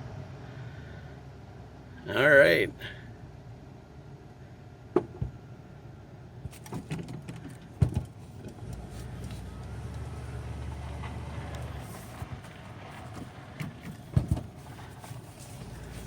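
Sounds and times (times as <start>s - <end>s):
engine running low rumble: 0.0s - 16.0s.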